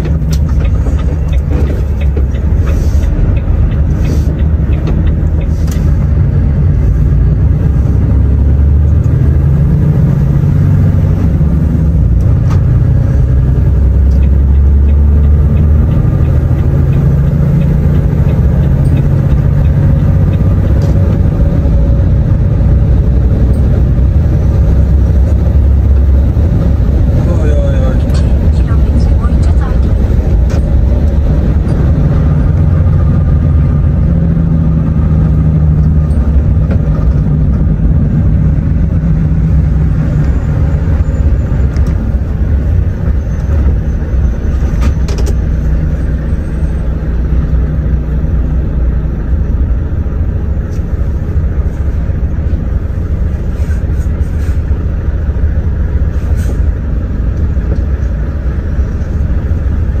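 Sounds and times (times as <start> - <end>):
road noise: 0.0 - 60.0
truck diesel engine drone: 0.0 - 60.0.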